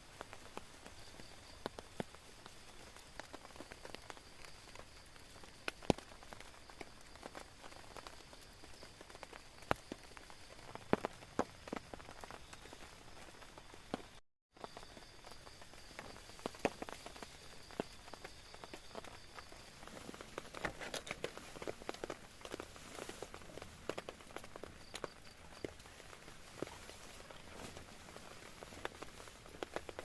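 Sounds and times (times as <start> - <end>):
rain hissing on a tent: 0.0 - 30.0
raindrops tapping on fabric: 0.0 - 30.0.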